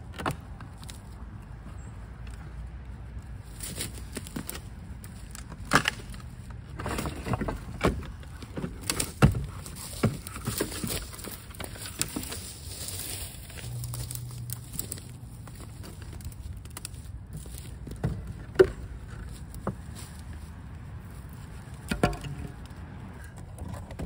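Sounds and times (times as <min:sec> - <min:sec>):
dry branches snapping and cracking: 0:00.0 - 0:23.9
leaves and twigs rustling: 0:00.6 - 0:23.4.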